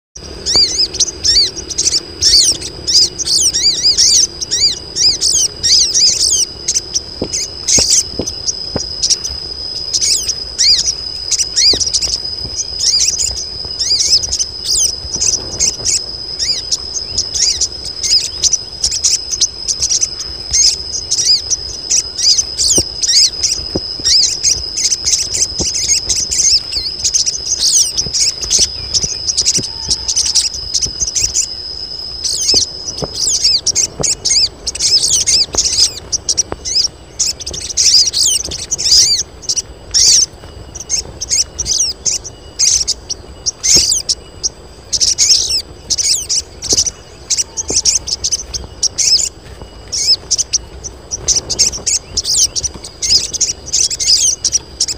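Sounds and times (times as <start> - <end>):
birds chirping: 0.2 - 54.9
insect trill: 0.2 - 54.9.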